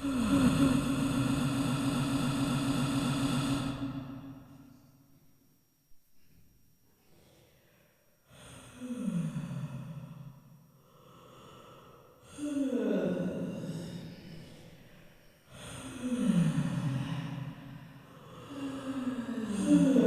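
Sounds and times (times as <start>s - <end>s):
quiet breaths: 0.0s - 20.0s.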